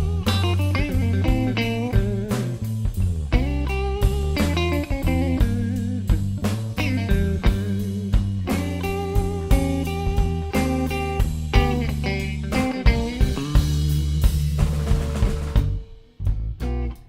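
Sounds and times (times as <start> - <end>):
steady drum beat: 0.0 - 16.9
bass notes: 0.0 - 17.0
electric guitar lines: 0.0 - 17.0.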